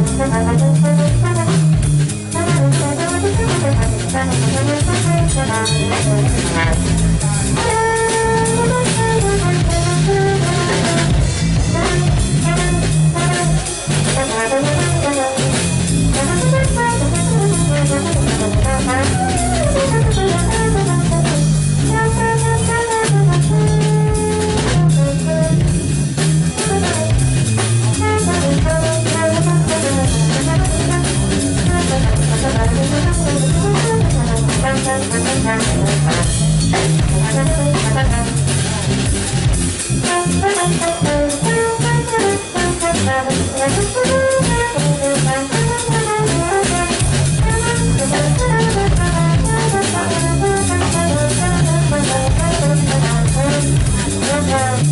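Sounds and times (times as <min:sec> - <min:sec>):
jazz band playing: 0:00.0 - 0:54.9
trombone melody: 0:00.0 - 0:54.9.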